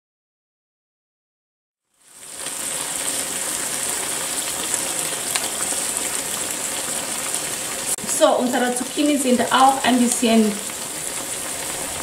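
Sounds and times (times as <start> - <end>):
food sizzling in a pan: 1.8 - 12.0.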